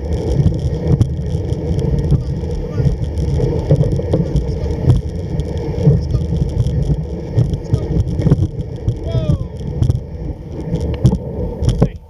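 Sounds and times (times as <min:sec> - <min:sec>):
knocks and clicks from sled: 0:00.0 - 0:12.0
sled runners scraping over snow: 0:00.0 - 0:12.0.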